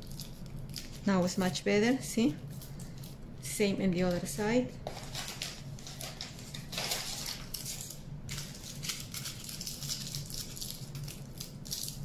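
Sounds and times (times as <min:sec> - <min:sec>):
aluminium foil crinkling: 0:00.0 - 0:03.2, 0:04.0 - 0:12.0
low steady hum: 0:00.0 - 0:12.0.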